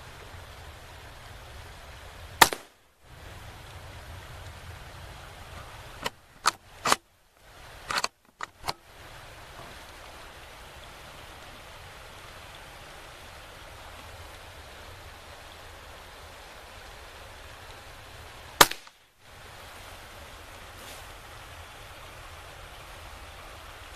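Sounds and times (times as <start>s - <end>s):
faint woodland hiss: 0.0s - 23.9s.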